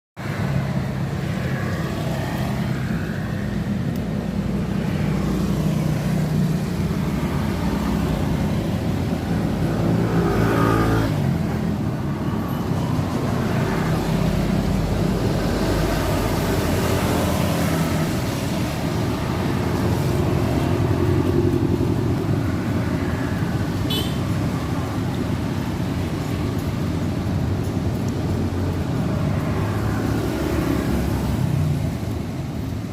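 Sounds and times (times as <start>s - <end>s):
car engines passing: 0.2s - 32.9s.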